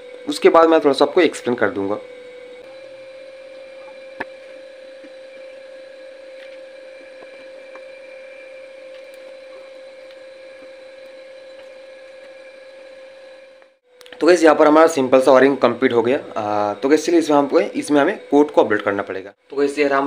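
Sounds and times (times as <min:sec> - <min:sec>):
steady hum with mid-pitched tone: 0:00.0 - 0:20.0.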